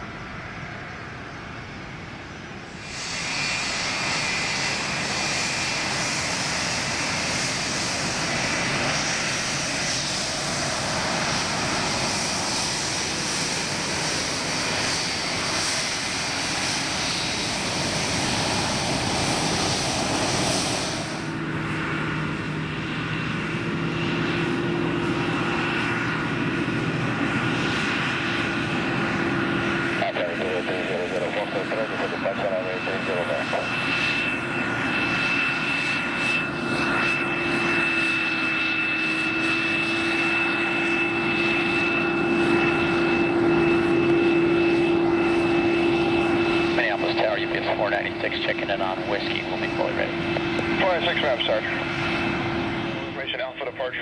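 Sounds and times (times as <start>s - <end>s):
jet engine roar with whine: 0.0s - 54.0s.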